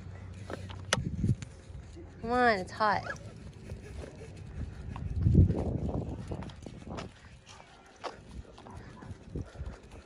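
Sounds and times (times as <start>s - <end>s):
footsteps on asphalt: 0.0s - 10.0s.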